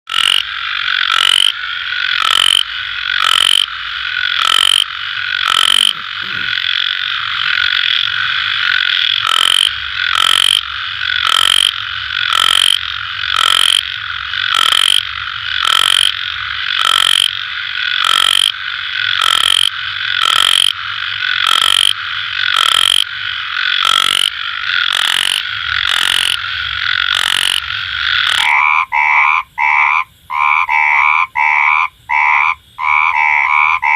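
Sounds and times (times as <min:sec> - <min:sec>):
frog chorus croaking: 0:00.1 - 0:33.9
sharp loud frog call: 0:00.1 - 0:33.9.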